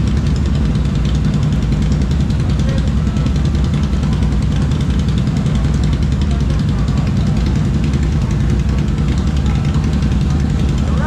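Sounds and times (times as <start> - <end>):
atv engines idling: 0.0 - 11.0.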